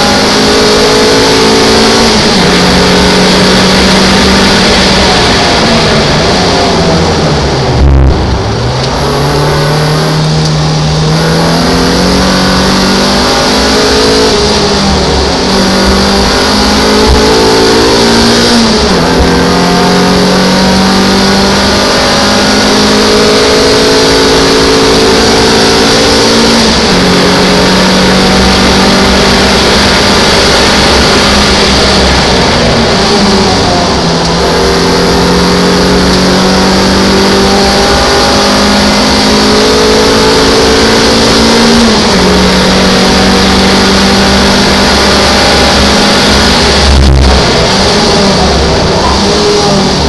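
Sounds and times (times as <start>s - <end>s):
race car engine revving: 0.0s - 50.0s
wind and road noise: 0.0s - 50.0s.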